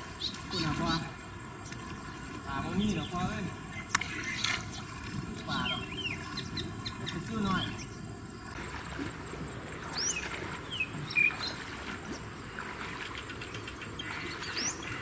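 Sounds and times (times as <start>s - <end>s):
sweeping bird calls: 0.0s - 8.6s, 9.8s - 15.0s
insects chirring: 0.0s - 15.0s.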